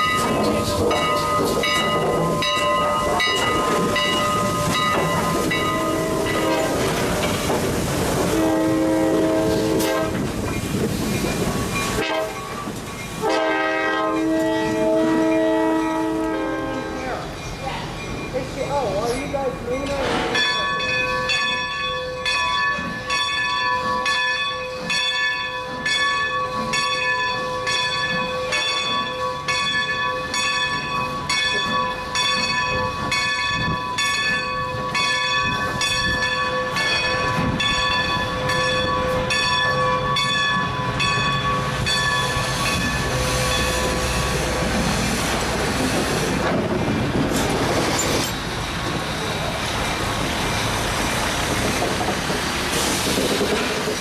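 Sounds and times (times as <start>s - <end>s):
steam locomotive bell ringing: 0.0s - 46.3s
train rumbling past: 0.0s - 54.0s.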